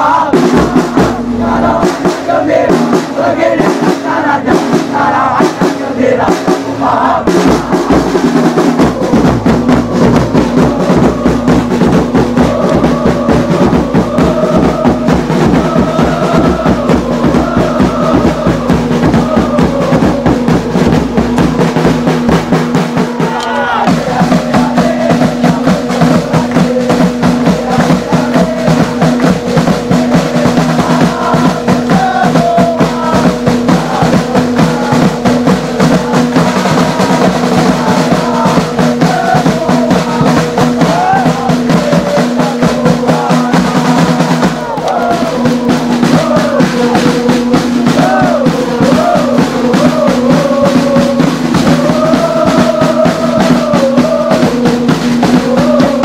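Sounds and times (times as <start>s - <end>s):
crowd chanting and singing: 0.0s - 56.0s
snare and bass drums beating: 0.0s - 56.0s.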